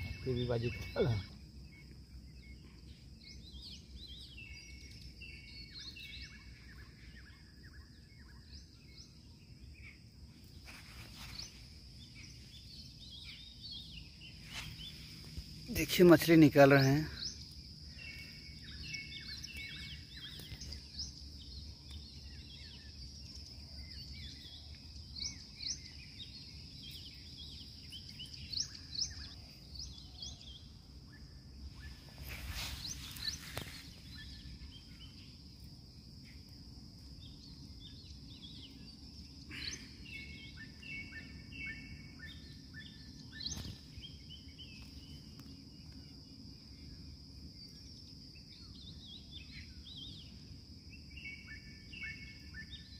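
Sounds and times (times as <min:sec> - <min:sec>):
high insect drone: 0:00.0 - 0:52.9
small birds chirping: 0:00.0 - 0:52.9.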